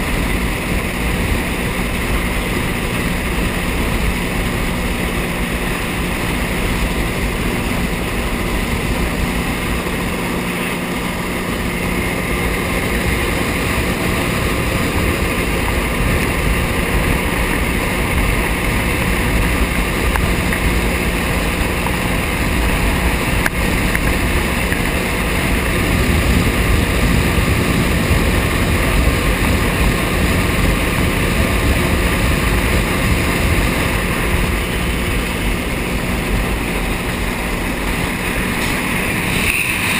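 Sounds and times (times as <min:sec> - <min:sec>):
jet ski engine running: 0:00.0 - 0:39.9
water rushing: 0:00.0 - 0:39.9
wind noise: 0:00.0 - 0:39.9.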